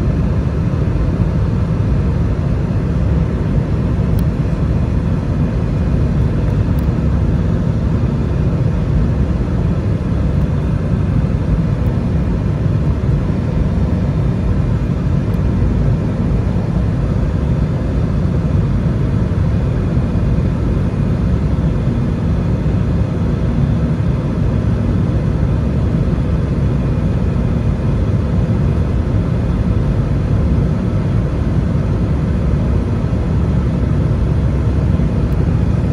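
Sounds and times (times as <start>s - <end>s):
faint constant hum: 0.0s - 35.9s
jet engines rumbling: 0.0s - 35.9s.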